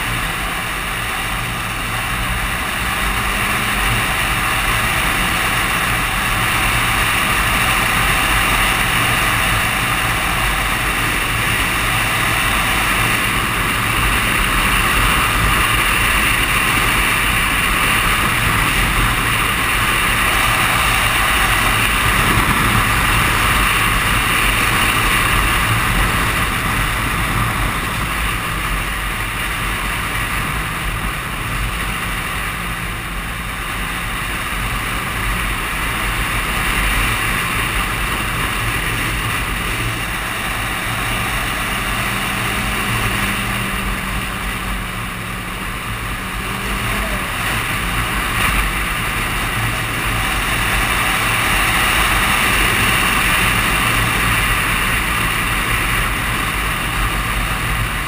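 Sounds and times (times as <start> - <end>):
motorcycle engine cruising: 0.0 - 58.0
wind noise: 0.0 - 58.0.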